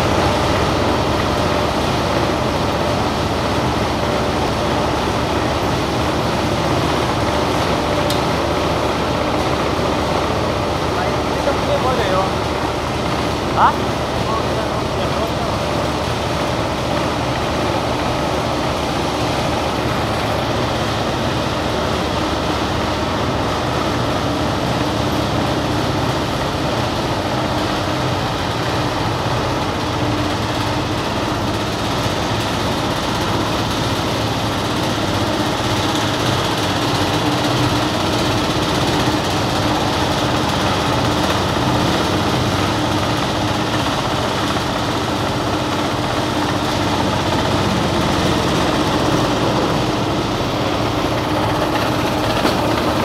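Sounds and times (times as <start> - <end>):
cotton gin mechanical drone: 0.0 - 53.0.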